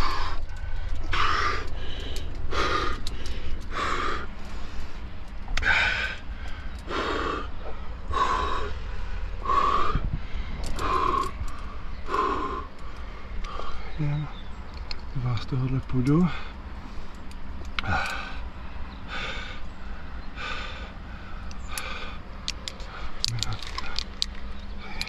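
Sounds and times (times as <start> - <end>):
heavy rhythmic breathing: 0.0 - 15.2, 15.9 - 25.0
low rumble: 0.0 - 25.0.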